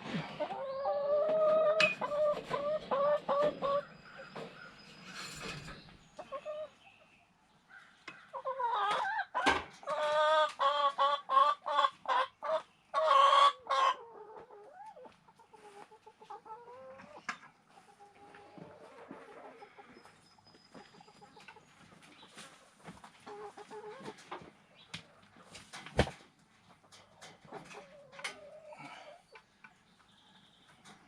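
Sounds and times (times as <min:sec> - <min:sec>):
chicken clucking and calling: 0:00.0 - 0:31.0.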